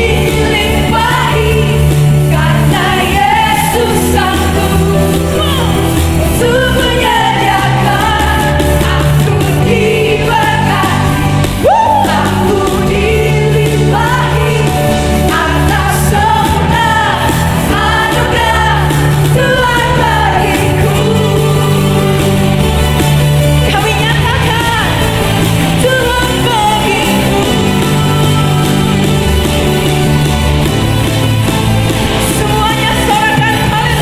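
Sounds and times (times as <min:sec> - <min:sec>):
people singing: 0:00.0 - 0:34.0
worship band playing: 0:00.0 - 0:34.0.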